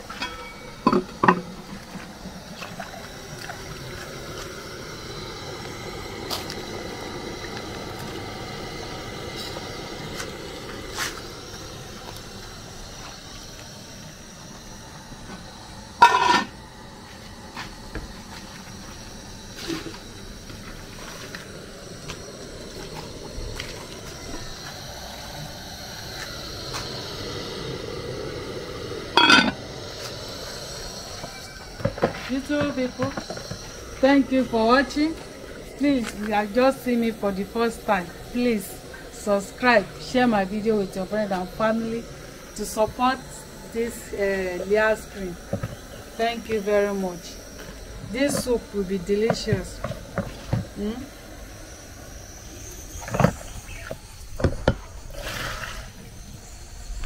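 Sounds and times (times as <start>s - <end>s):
pot bubbling and hissing: 0.0s - 57.0s.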